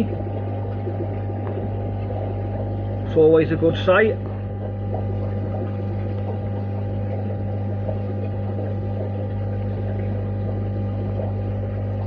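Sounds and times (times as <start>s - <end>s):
aquarium equipment humming: 0.0s - 12.0s
water bubbling: 0.0s - 12.0s.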